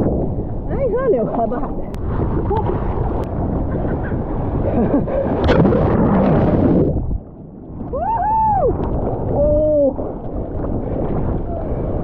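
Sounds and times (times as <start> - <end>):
seawater rushing and splashing: 0.0 - 12.0
wind buffeting microphone: 0.0 - 12.0.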